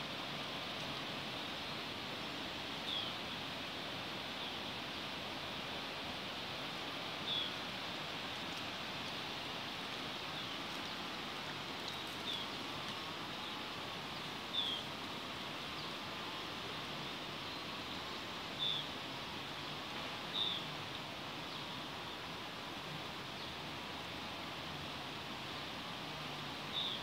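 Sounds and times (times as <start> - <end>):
steady outdoor hiss: 0.0 - 27.0.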